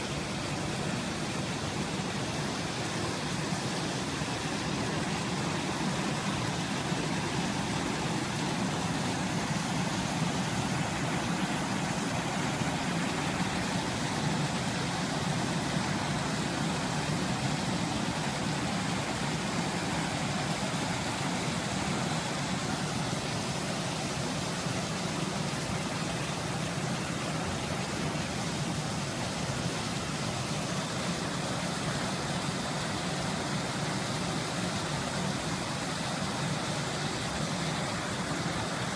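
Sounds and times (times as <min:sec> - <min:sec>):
floodwater rushing over boulders: 0:00.0 - 0:38.9.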